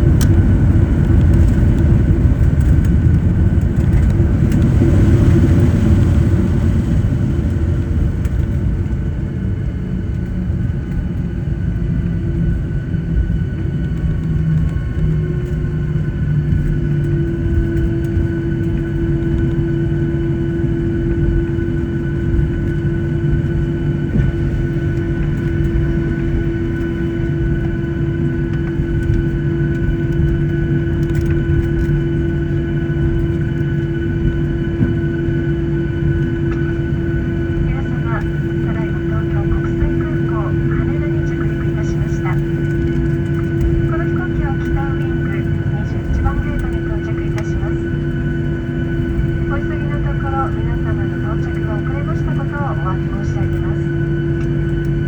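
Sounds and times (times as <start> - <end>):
low rumble: 0.0 - 11.2, 12.5 - 55.0
jet engine hum: 0.0 - 55.0
loud steady hum: 0.0 - 55.0.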